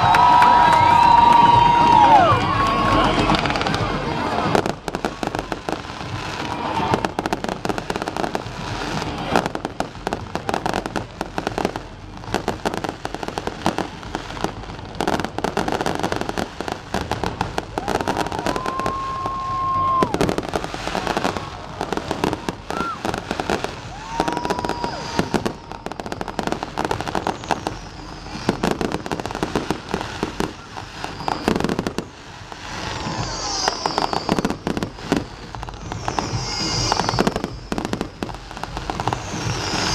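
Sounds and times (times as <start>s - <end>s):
fireworks bangs and crackles: 0.0s - 39.9s
fireworks whistling: 0.0s - 39.9s.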